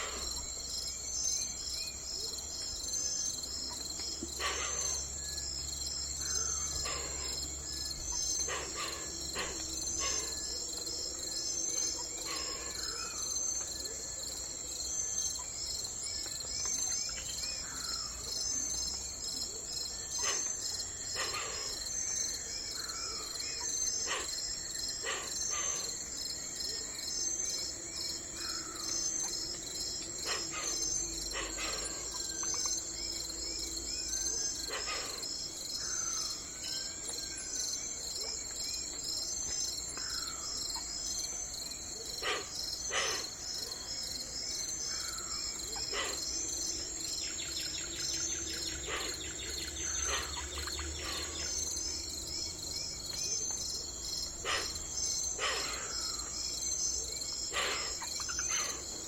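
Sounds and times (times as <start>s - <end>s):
insects chirping: 0.0s - 59.0s
bird calls: 1.2s - 5.4s, 6.1s - 14.0s, 16.1s - 26.0s, 26.6s - 38.4s, 39.4s - 59.0s.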